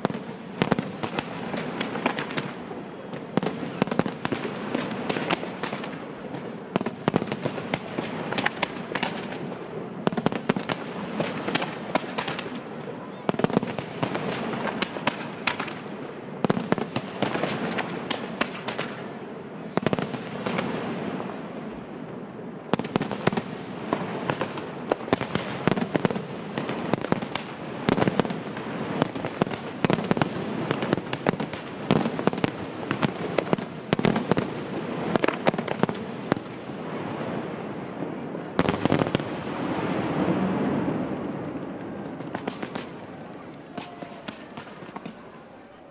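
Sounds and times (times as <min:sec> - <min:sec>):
fireworks bursting with sharp bangs: 0:00.0 - 0:45.9.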